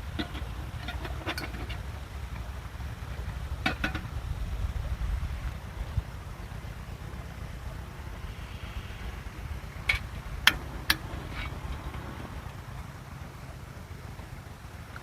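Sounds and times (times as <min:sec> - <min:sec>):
low rumble: 0:00.0 - 0:14.4.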